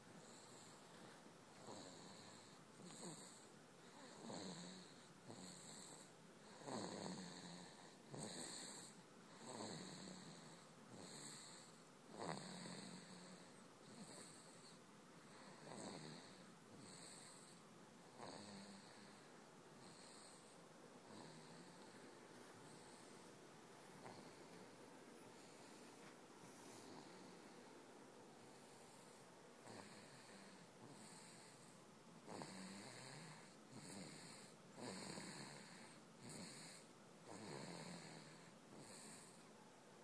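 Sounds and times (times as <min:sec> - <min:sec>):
faint snoring: 0:00.2 - 0:39.5.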